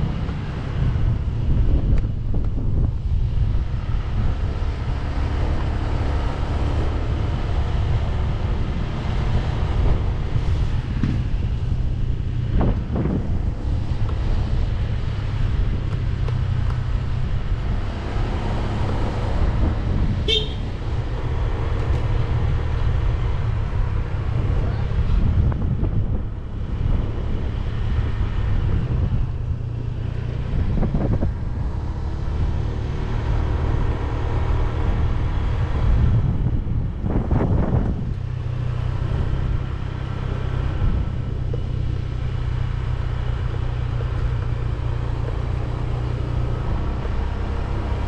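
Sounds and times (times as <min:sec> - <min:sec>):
wind rushing: 0:00.0 - 0:41.4
motorcycle engine running: 0:00.0 - 0:48.0
road rumble: 0:00.0 - 0:48.0.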